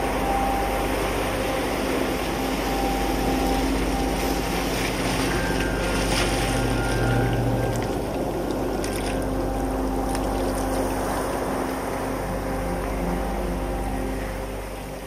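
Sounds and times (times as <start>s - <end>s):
low drone tones: 0.0s - 15.0s
surf washing against rocks: 0.0s - 15.0s.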